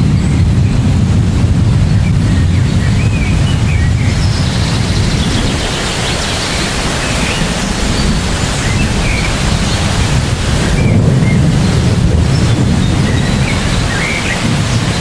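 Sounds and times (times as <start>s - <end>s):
deep low rumble: 0.0s - 15.0s
heavy rain on trees: 0.0s - 15.0s.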